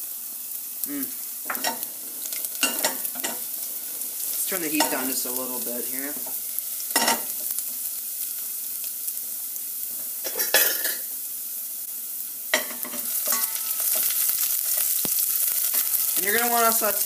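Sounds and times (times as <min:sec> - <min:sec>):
garlic sizzling in hot oil: 0:00.0 - 0:17.0.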